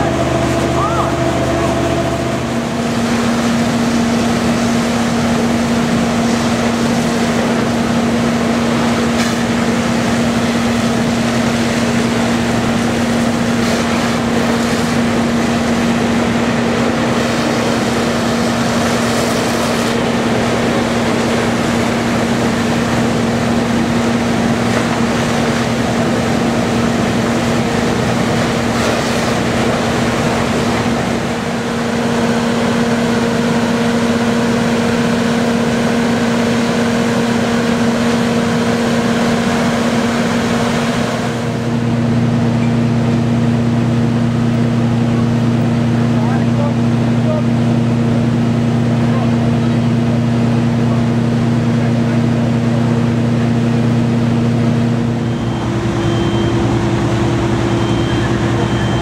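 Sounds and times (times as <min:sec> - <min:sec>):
fire engine running: 0:00.0 - 0:59.0.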